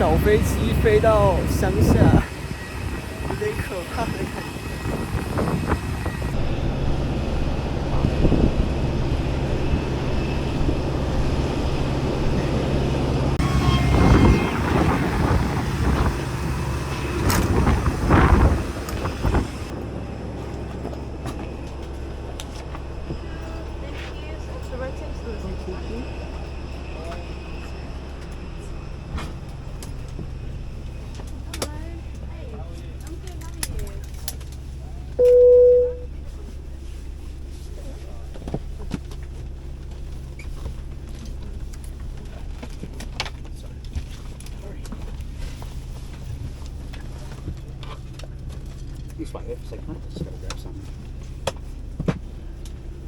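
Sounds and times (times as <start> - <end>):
engine rumble: 0.0 - 53.0
propeller plane cabin drone: 0.0 - 53.0.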